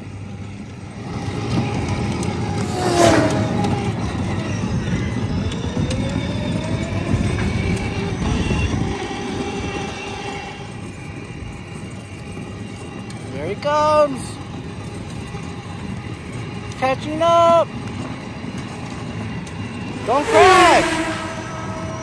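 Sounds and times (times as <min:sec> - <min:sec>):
plastic wheels rumbling on asphalt: 0:00.0 - 0:19.6.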